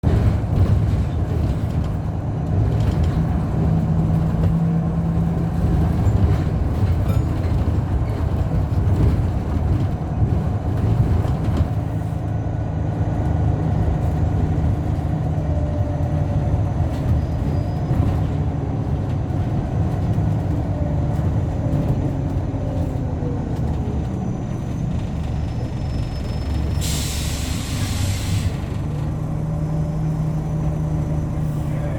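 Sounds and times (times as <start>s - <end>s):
bus engine humming: 0.0s - 31.9s.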